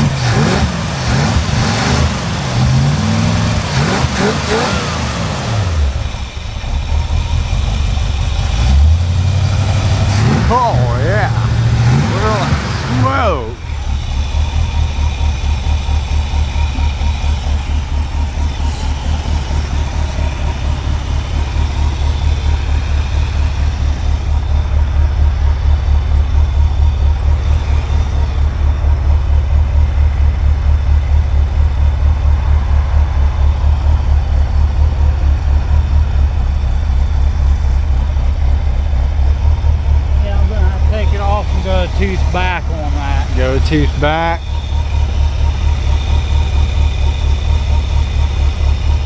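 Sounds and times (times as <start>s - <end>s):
car engine idling rough: 0.0s - 49.0s.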